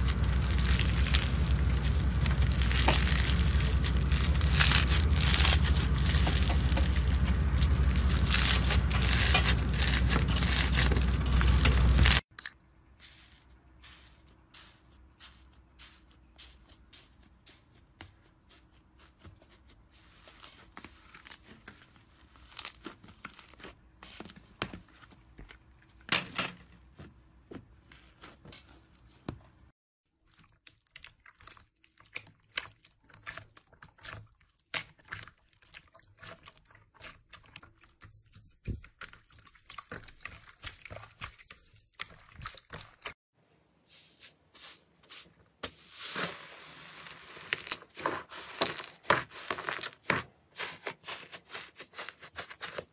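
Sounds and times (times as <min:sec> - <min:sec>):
slime crackling and squelching: 0:00.0 - 0:24.2, 0:30.2 - 0:43.2, 0:45.7 - 0:52.9.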